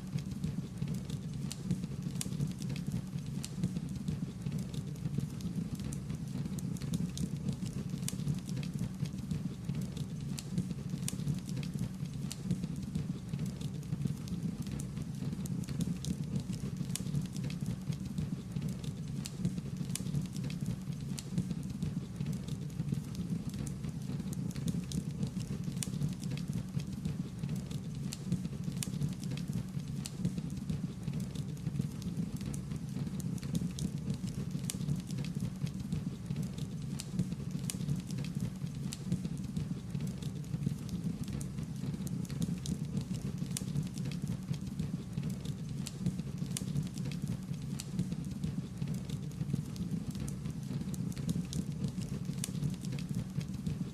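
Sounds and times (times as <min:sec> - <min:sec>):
wood fire crackling: 0:00.2 - 0:53.9.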